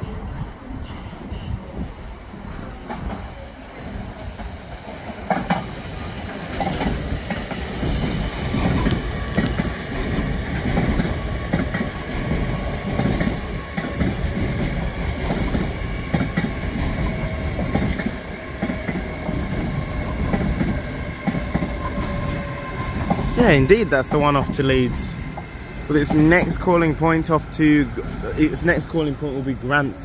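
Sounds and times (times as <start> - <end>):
train wheels clattering: 4.4 - 29.4.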